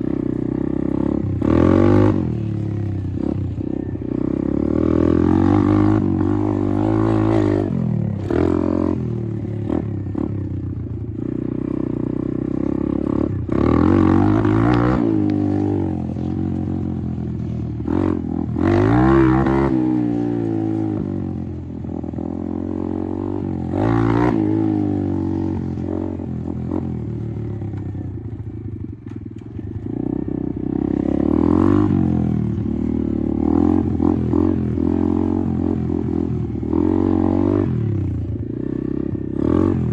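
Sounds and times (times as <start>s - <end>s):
dirt bike engine revving: 0.0s - 27.8s, 29.6s - 39.9s.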